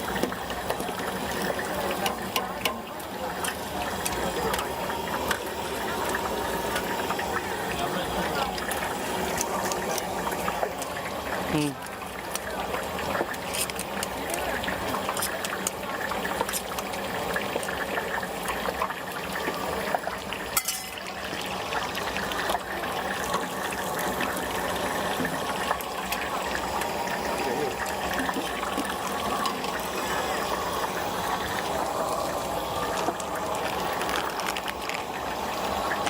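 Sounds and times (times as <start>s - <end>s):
food deep-frying in hot oil: 0.0s - 36.0s.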